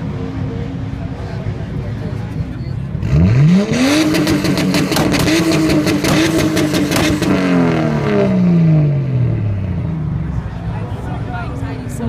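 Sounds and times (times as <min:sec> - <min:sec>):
car engine revving with crackling exhaust: 0:00.0 - 0:12.0.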